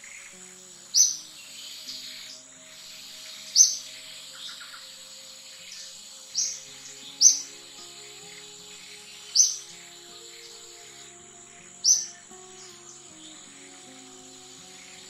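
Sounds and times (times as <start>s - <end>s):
high insect whine: 0.0s - 15.0s
soft background music: 0.0s - 15.0s.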